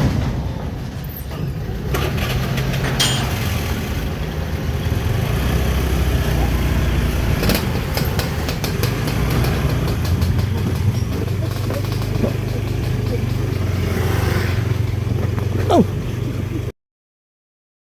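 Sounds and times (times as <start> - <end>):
engine humming: 0.0 - 16.7.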